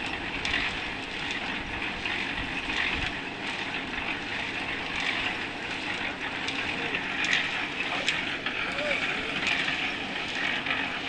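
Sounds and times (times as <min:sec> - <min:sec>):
construction machinery running: 0:00.0 - 0:11.0.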